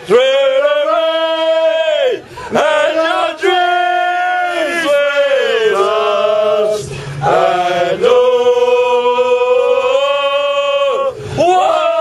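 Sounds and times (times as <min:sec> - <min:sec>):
football supporters singing: 0:00.0 - 0:12.0.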